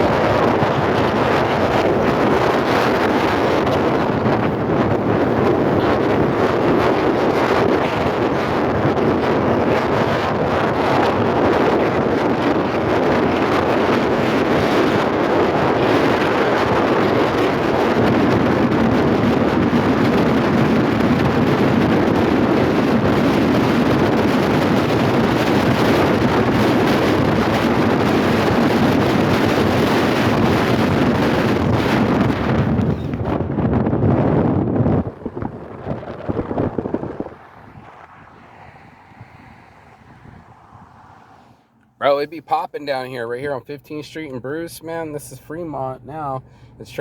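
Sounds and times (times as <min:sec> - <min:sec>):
road noise: 0:00.0 - 0:47.0
wind buffeting microphone: 0:00.0 - 0:47.0.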